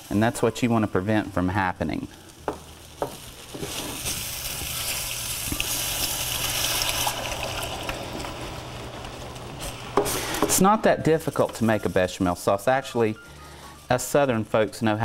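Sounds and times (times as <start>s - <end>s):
liquid sizzling in hot skillet: 0.0s - 15.0s.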